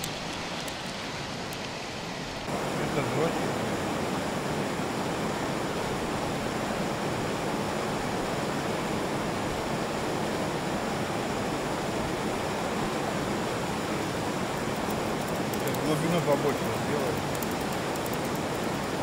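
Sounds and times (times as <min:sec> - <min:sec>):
rush of flowing water: 0:00.0 - 0:19.0.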